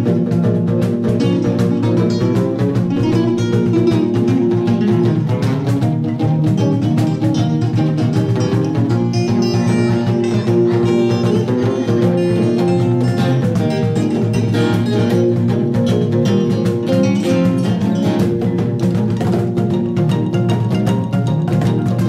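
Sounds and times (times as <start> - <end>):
acoustic guitars playing: 0.0 - 22.0.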